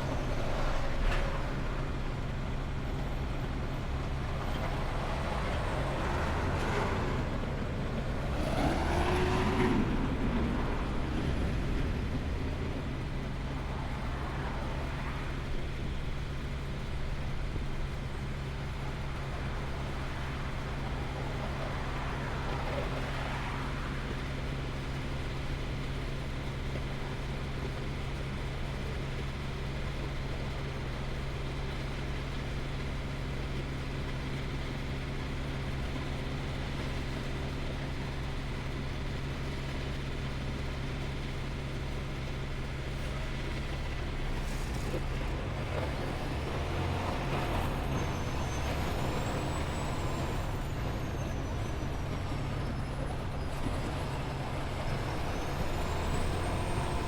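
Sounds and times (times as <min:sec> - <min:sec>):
road noise: 0:00.0 - 0:57.0
truck engine hum: 0:00.0 - 0:57.0.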